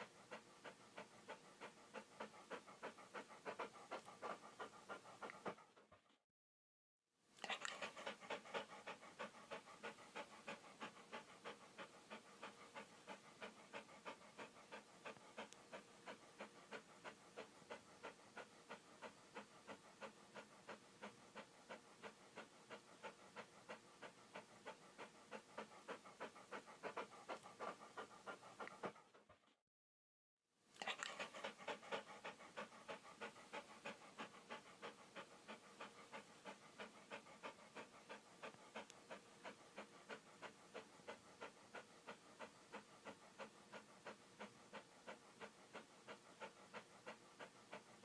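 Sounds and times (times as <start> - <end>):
dog panting: 0.0 - 6.2, 7.4 - 29.6, 30.8 - 48.0.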